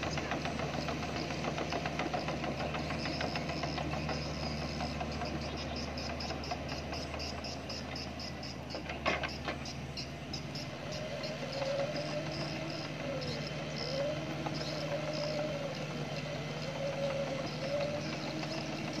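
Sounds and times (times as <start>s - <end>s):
excavator diesel engine with whine: 0.0s - 19.0s.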